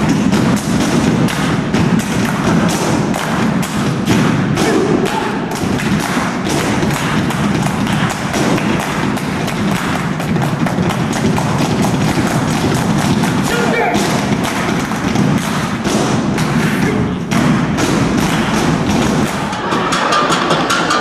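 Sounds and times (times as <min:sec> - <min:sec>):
boot stomps on stage floor: 0:00.0 - 0:19.3
chest and thigh slaps: 0:00.0 - 0:19.5
hand claps: 0:00.0 - 0:21.0.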